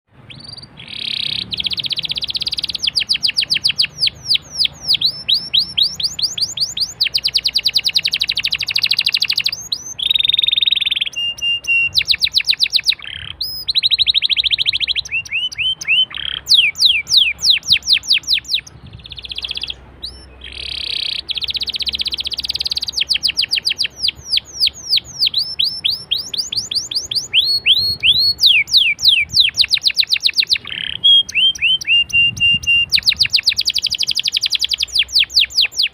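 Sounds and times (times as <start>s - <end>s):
canary singing trills: 0.1s - 35.9s.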